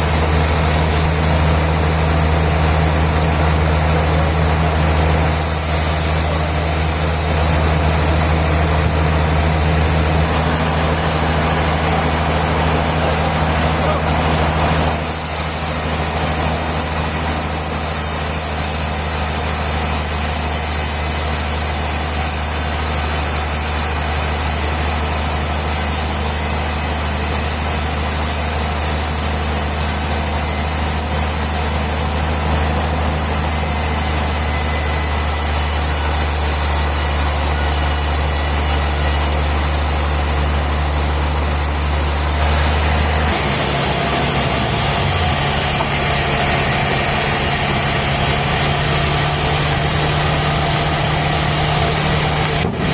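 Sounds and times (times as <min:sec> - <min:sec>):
sawmill machinery humming: 0:00.0 - 0:52.9.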